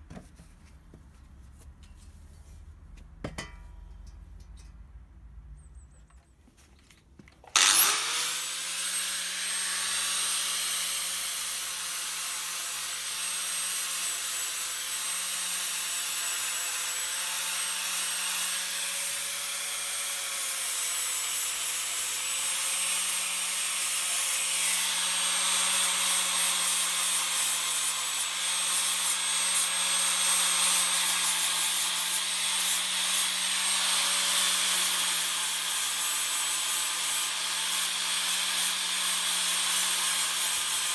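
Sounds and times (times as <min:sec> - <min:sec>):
angle grinder cutting metal: 0:07.5 - 0:40.9.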